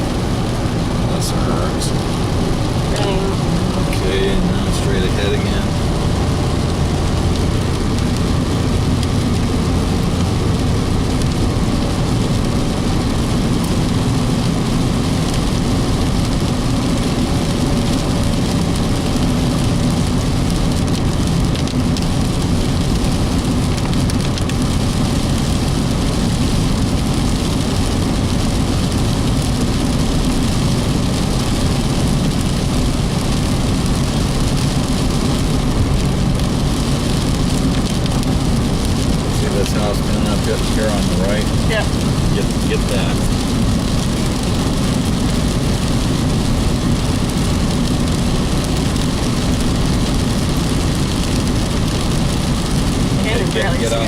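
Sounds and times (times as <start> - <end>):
car engine and road hum: 0.0 - 54.0.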